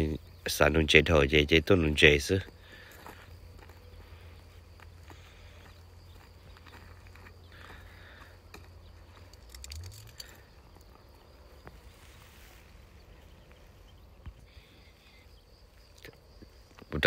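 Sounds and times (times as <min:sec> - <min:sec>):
faint insect chirring: 0:00.0 - 0:17.0.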